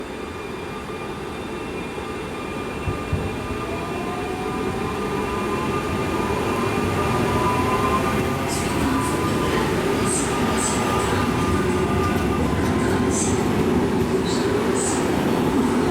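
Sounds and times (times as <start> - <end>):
electric train whine and rumble: 0.0 - 15.9.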